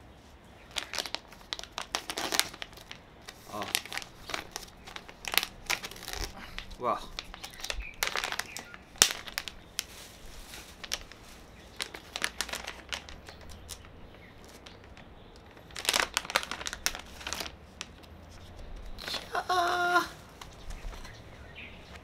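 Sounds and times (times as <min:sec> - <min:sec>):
packaging bag crinkling: 0:00.7 - 0:22.0.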